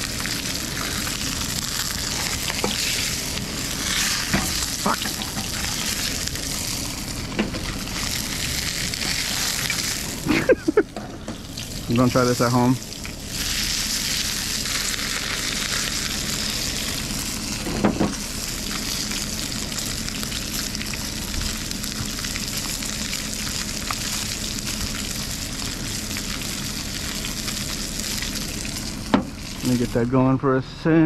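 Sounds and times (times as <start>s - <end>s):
fish sizzling in oil: 0.0s - 30.2s.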